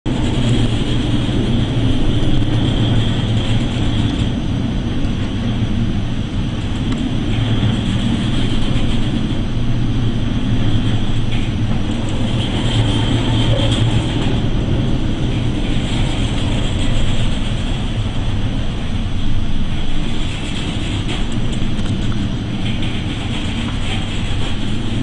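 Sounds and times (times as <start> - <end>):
ship engine rumble: 0.0 - 25.0
low hum: 0.1 - 25.0.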